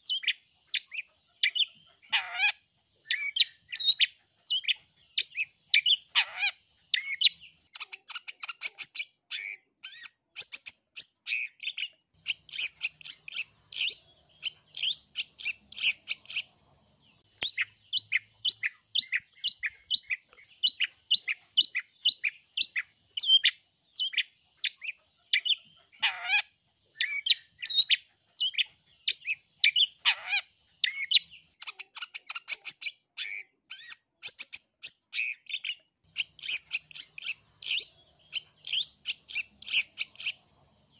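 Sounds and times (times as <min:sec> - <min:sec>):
bird singing fast chatter: 0:00.0 - 0:40.9.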